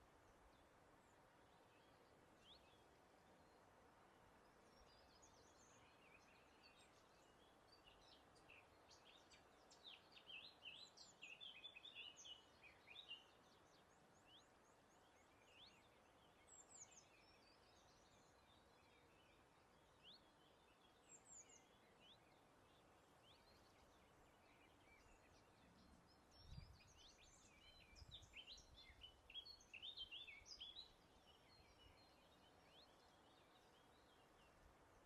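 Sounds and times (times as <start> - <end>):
soft breeze hiss: 0.0 - 35.0.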